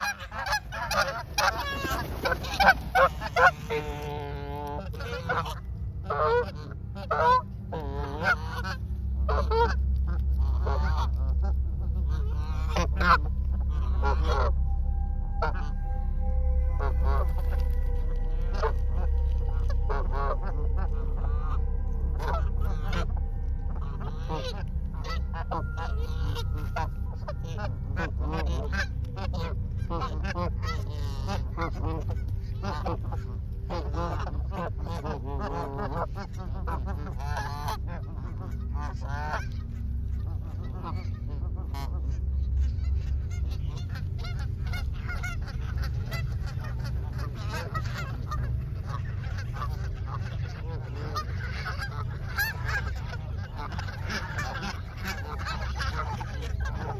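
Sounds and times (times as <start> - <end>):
geese honking: 0.0 - 56.9
steady low rumble: 0.0 - 56.9.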